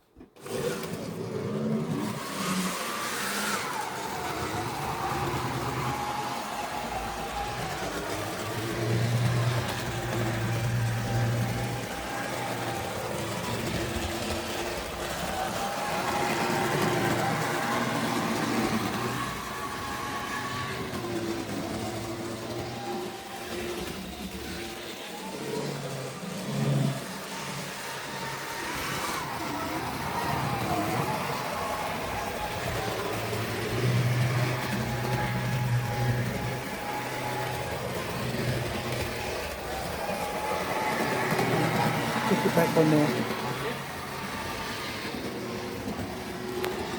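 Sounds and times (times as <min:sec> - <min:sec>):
model locomotive motor whine: 0:00.0 - 0:46.9.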